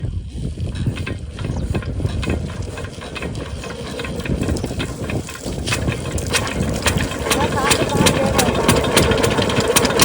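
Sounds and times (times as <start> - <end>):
diesel pump engine rumble: 0.0 - 10.0
mechanical clicks and clatter: 0.8 - 10.0.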